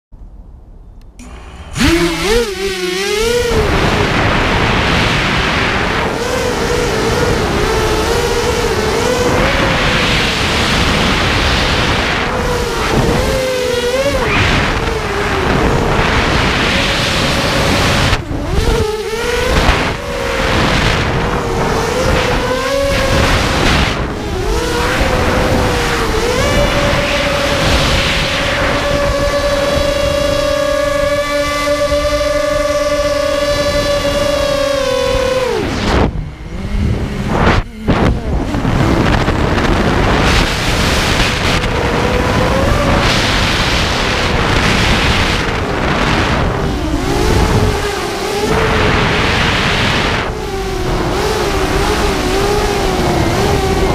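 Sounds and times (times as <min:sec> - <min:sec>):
rushing wind noise: 0:00.4 - 0:53.9
drone motors whining: 0:01.0 - 0:53.9.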